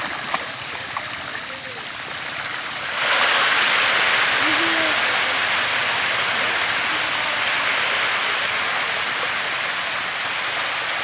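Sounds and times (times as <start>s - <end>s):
fish splashing at water surface: 0.0s - 11.0s.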